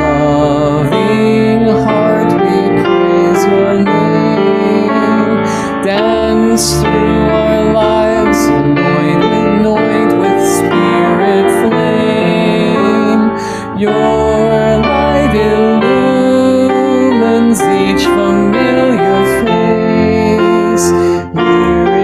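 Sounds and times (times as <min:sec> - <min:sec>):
piano chords: 0:00.0 - 0:22.0
voices singing a hymn: 0:00.0 - 0:22.0.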